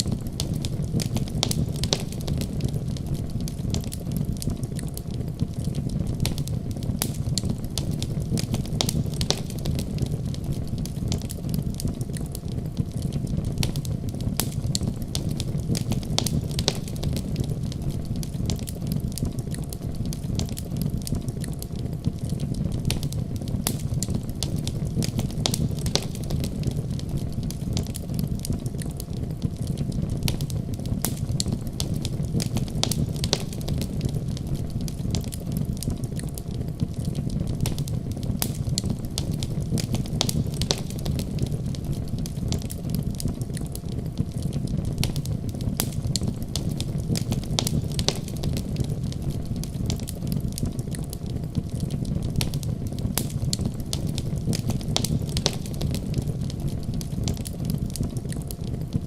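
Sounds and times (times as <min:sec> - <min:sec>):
sharp pops of fire: 0:00.0 - 0:59.0
steady low rumble: 0:00.0 - 0:59.0
wood fire crackling: 0:00.0 - 0:59.0.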